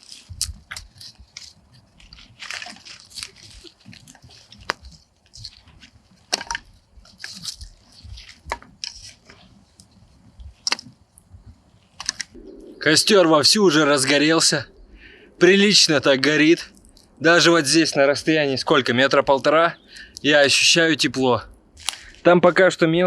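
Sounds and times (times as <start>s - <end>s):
twig fire crackling and popping: 0.0s - 22.8s.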